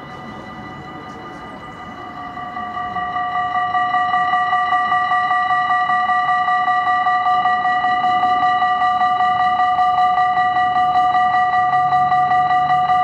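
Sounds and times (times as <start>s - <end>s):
level crossing warning bells: 0.0s - 13.0s.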